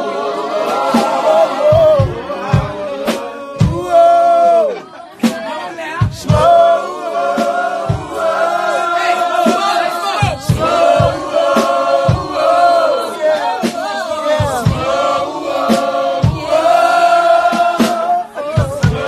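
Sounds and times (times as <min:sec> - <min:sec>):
men singing in choir style: 0:00.0 - 0:19.0
deep beat thumps and hits: 0:00.7 - 0:04.4, 0:06.0 - 0:13.0, 0:13.6 - 0:19.0.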